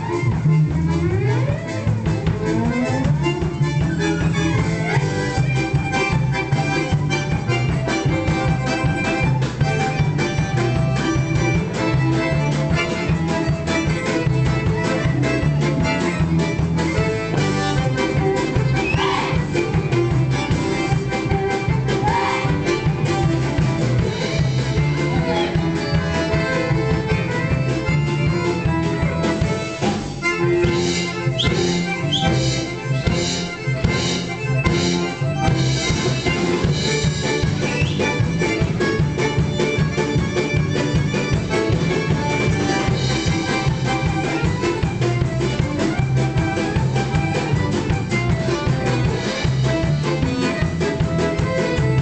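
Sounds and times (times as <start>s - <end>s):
fiddle melody: 0.0s - 52.0s
folk band playing dance tune: 0.0s - 52.0s.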